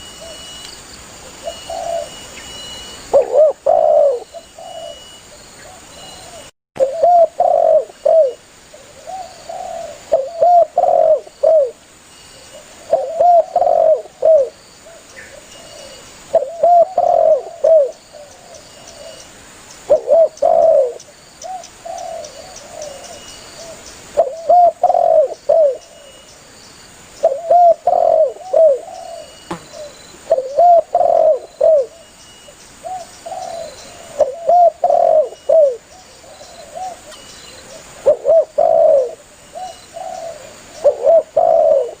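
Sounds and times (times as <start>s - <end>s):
dove cooing: 1.2s - 2.3s, 3.1s - 11.8s, 12.4s - 19.2s, 19.9s - 26.1s, 27.2s - 32.1s, 32.8s - 42.0s.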